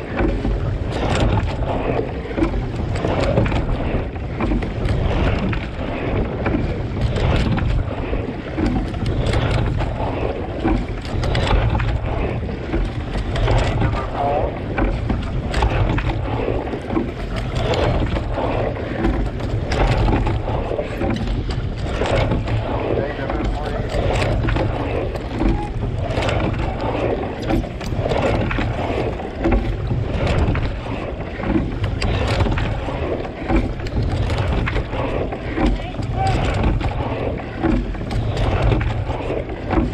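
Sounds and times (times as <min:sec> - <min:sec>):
short splashes: 0:00.0 - 0:39.9
water rushing along hull: 0:00.0 - 0:39.9
wind buffeting camera: 0:00.0 - 0:39.9.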